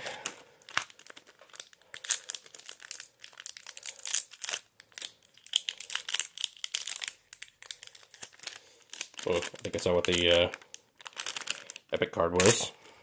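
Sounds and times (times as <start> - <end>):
foil wrapper crinkling: 0.0 - 12.7.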